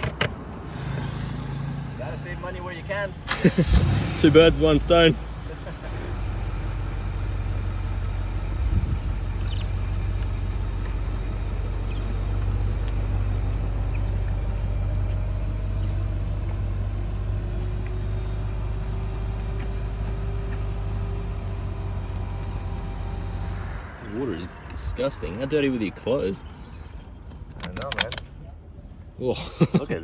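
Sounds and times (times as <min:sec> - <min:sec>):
car engine and road rumble: 0:00.0 - 0:29.9.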